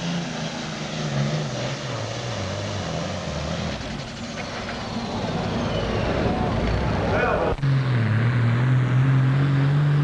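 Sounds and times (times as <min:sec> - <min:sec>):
diesel engine pitch falling: 0:00.0 - 0:10.0.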